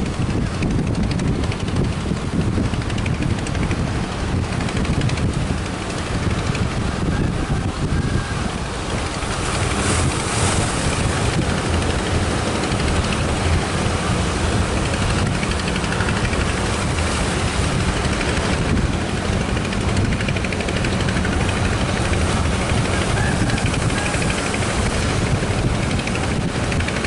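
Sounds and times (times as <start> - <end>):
boat motor running: 0.0 - 27.0
waves: 0.0 - 27.0
wind rumbling on microphone: 0.0 - 27.0.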